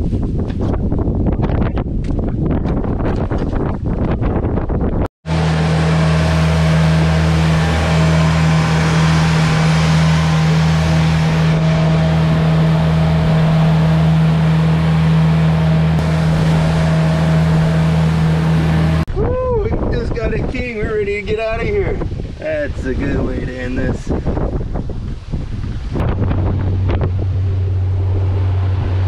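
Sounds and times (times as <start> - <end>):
boat motor running: 1.5 - 19.3, 20.0 - 29.0.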